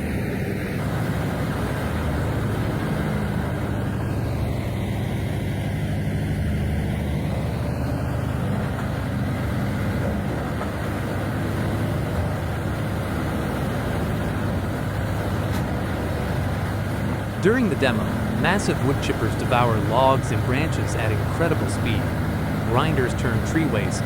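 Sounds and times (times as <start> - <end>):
large diesel engine droning: 0.0 - 24.0.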